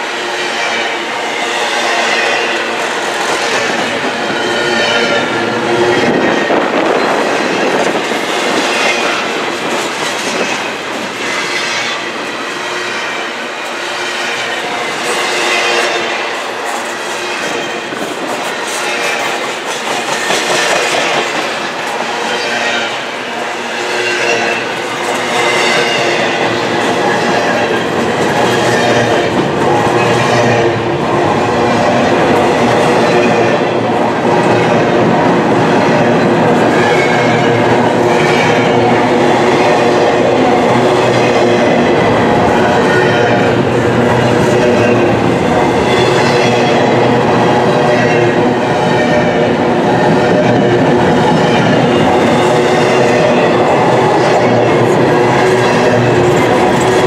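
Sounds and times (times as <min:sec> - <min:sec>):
steel wheels clattering on rails: 0:00.0 - 0:57.0.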